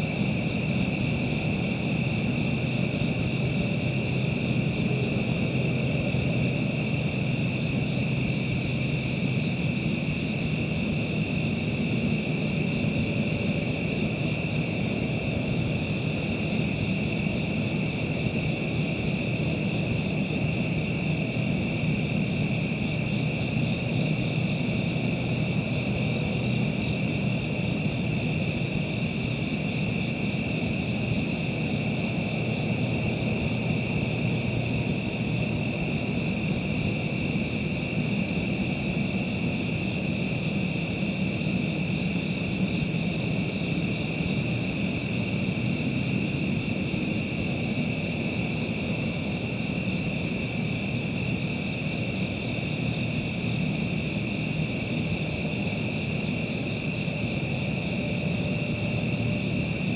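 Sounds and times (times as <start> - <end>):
insects chirping drone: 0.0 - 59.9.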